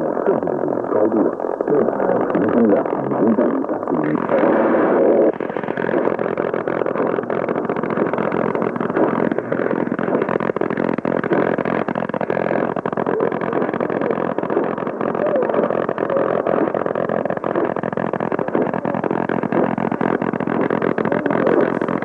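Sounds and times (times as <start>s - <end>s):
faint steady radio tones: 0.0s - 22.0s
radio static hiss: 0.0s - 22.0s
radio station audio: 0.0s - 22.0s.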